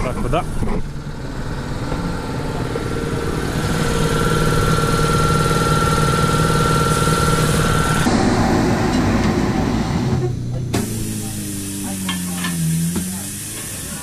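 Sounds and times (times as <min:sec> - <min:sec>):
hydraulic machine motor whining: 0:00.0 - 0:14.0.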